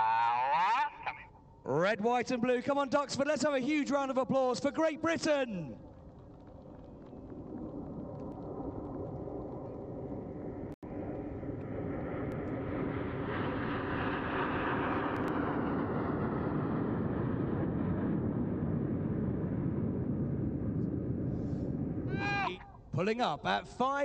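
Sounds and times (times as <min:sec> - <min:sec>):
jet engines flying past: 0:00.0 - 0:24.0.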